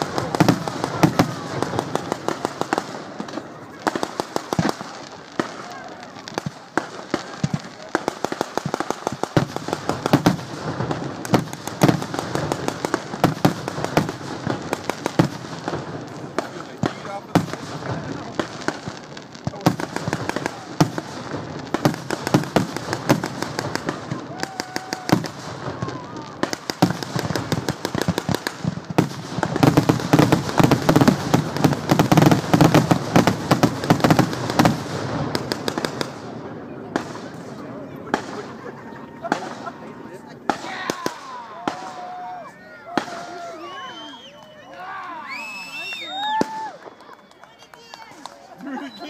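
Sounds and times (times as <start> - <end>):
fireworks bangs: 0.0 - 44.5, 45.2 - 49.0
fireworks crackling pops: 0.0 - 49.0.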